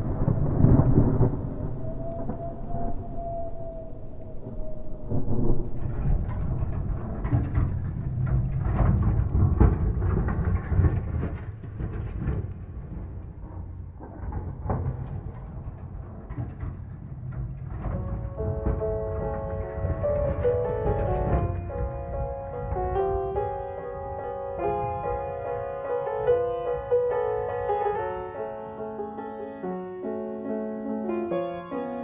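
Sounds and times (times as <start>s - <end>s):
rain: 0.0s - 32.0s
rolling thunder: 0.0s - 32.0s.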